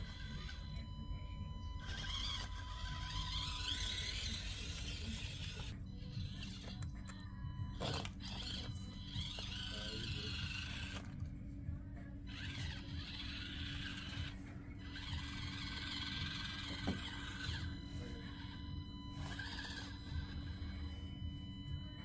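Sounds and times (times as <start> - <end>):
small electric motor and gears whining: 0.0 - 22.0
steady low hum: 0.0 - 22.0.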